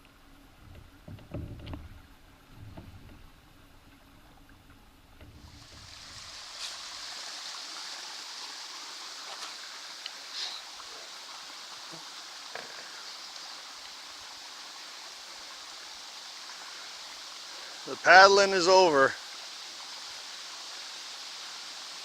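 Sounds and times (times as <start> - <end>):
flowing water hiss: 0.0 - 22.0.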